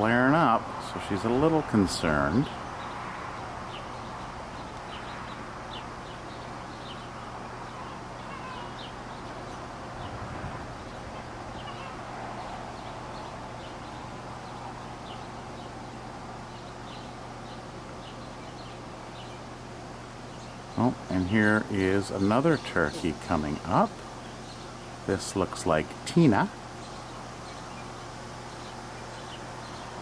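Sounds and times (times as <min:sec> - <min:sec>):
steady outdoor hiss: 0:00.0 - 0:30.0.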